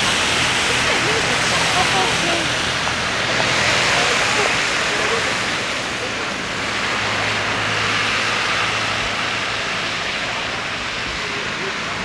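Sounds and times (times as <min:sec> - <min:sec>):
rain on wet street: 0:00.0 - 0:12.0.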